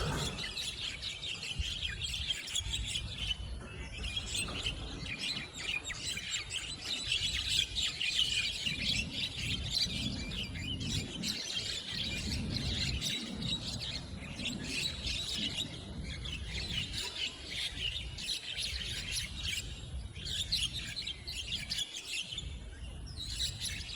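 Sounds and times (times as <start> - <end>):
birds chattering and squawking: 0.0 - 23.9.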